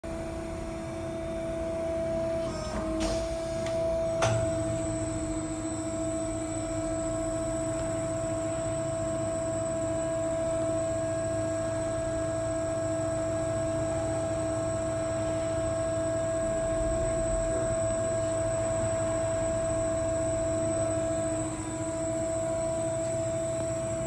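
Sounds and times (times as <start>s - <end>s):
bending machine humming: 0.1s - 24.0s.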